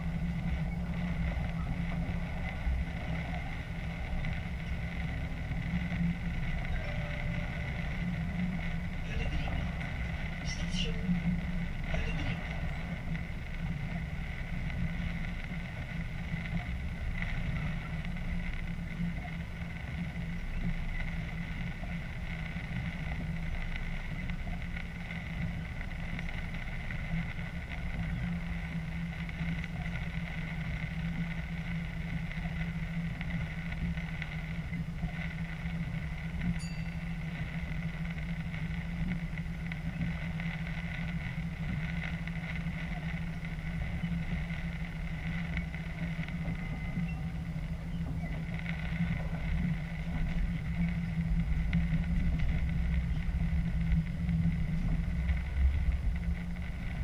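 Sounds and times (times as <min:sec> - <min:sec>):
diesel train engine hum: 0:00.0 - 0:57.0
wheels rolling over track: 0:00.0 - 0:57.0.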